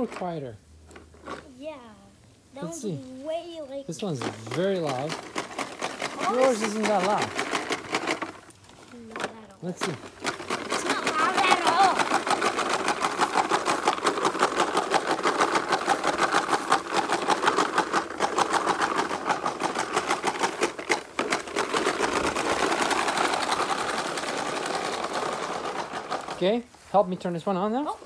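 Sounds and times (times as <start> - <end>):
toy lawn mower clicking rattle: 0.0 - 1.5, 3.8 - 28.0.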